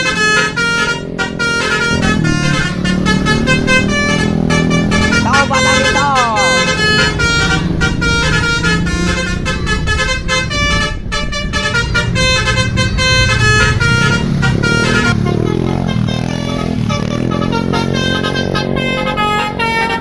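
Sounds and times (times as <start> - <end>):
bus engine: 0.0 - 20.0
musical air horn tune: 0.0 - 20.0.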